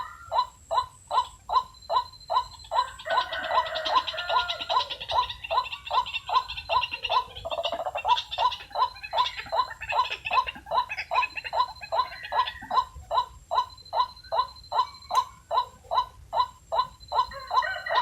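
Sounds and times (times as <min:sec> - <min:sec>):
bird calling harsh repeated notes: 0:00.0 - 0:18.0.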